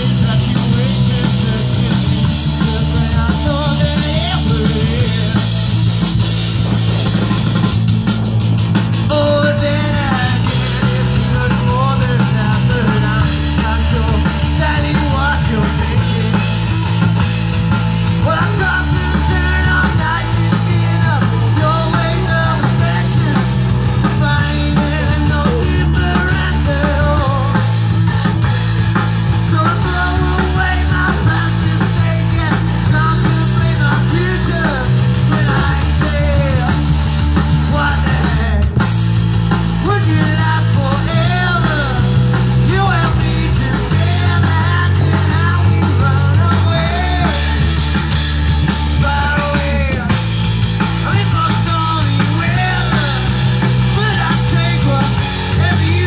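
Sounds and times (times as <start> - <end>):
person singing: 0.0 - 5.9, 9.0 - 17.1, 18.2 - 28.4, 29.4 - 38.8, 39.8 - 48.1, 51.0 - 56.0
drums: 0.0 - 56.0
electric guitars: 0.0 - 56.0
heavy bass line: 0.0 - 56.0.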